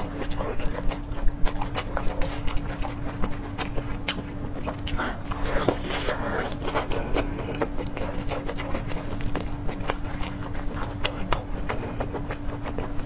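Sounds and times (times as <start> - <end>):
crunchy chewing: 0.0 - 13.0
faint steady hum: 0.0 - 13.0.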